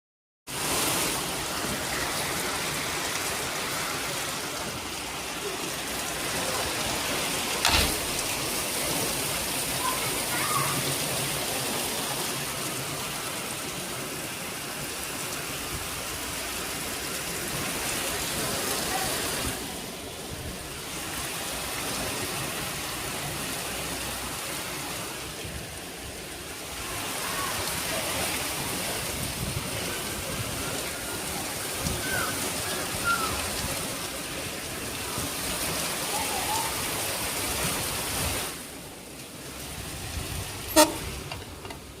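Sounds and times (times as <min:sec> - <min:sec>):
heavy rain falling: 0:00.5 - 0:42.0.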